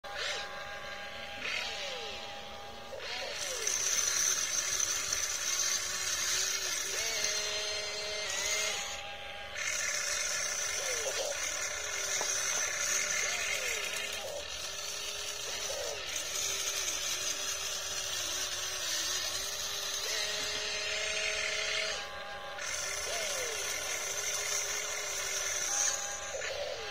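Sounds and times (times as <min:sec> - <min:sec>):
electric motors whining: 0:00.0 - 0:26.9.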